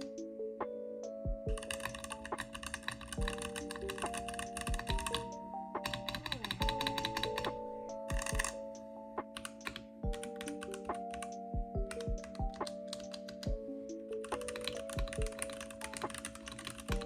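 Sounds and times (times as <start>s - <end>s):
background music with sustained notes: 0.0s - 17.0s
typing on mechanical keyboard: 1.5s - 13.6s, 14.2s - 17.0s.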